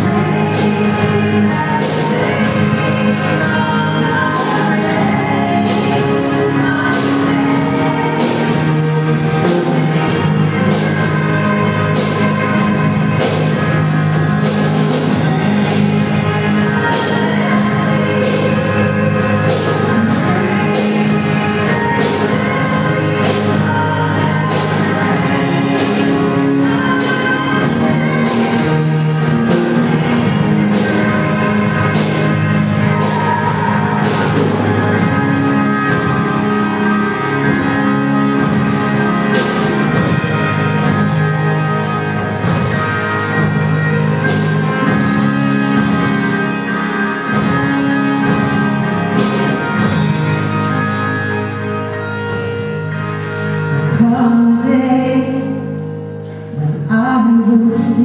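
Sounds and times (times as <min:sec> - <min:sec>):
voices singing: 0:00.0 - 0:49.8
acoustic guitar: 0:00.0 - 0:58.0
drum kit beat with cymbals: 0:00.0 - 0:58.0
keyboards: 0:00.0 - 0:58.0.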